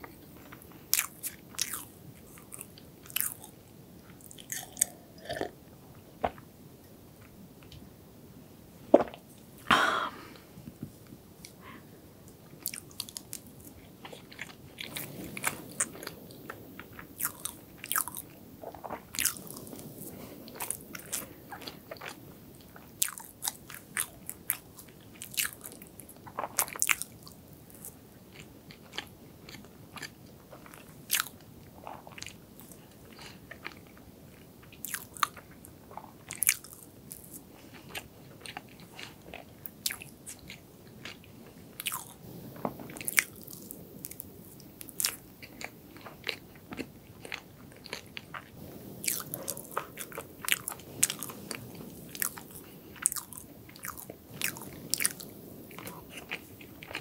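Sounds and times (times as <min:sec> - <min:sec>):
chewing soft cake: 0:00.0 - 0:05.6, 0:10.4 - 0:57.0.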